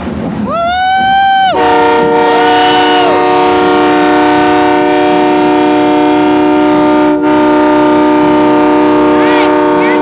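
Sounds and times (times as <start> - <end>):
truck air horns: 1.6 - 10.0.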